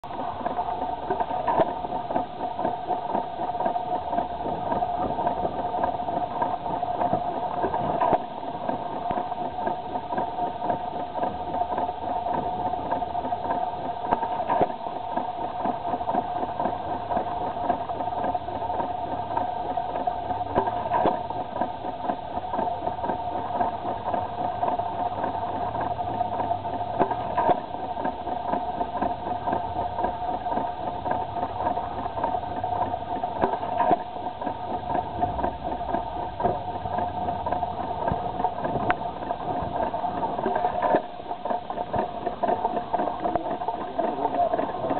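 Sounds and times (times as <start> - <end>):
engine knock: 0.0 - 44.9
stationary engine running: 0.0 - 44.9.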